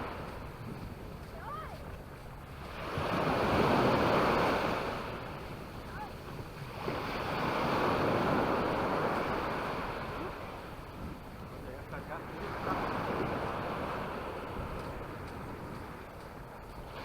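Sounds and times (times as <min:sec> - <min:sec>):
small waves breaking on beach: 0:00.0 - 0:17.0.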